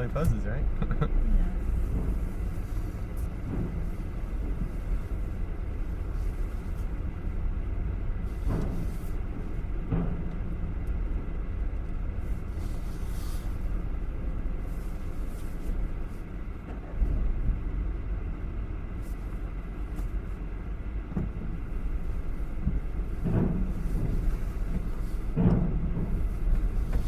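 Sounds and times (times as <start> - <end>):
ferry engines rumbling: 0.0 - 27.0.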